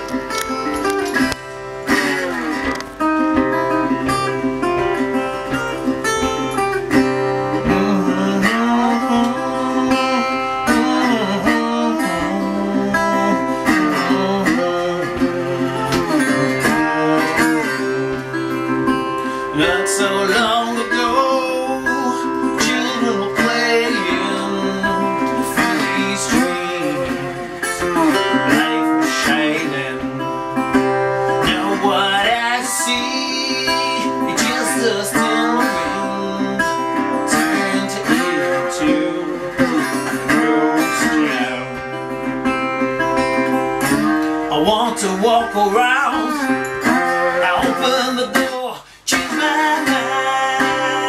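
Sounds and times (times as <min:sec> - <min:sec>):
electric guitar bending notes: 0:00.0 - 0:51.0
rock band playing live: 0:00.0 - 0:51.0.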